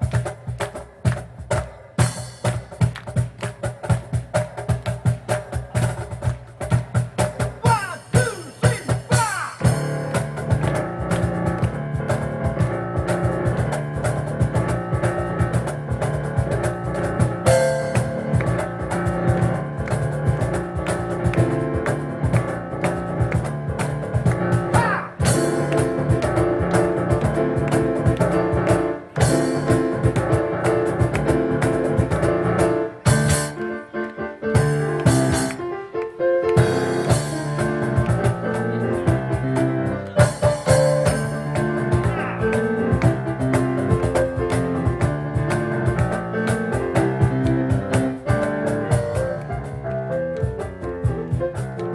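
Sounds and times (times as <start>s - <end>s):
rapid cajon strikes: 0.0s - 33.8s, 34.4s - 51.9s
piano playing: 9.6s - 51.9s.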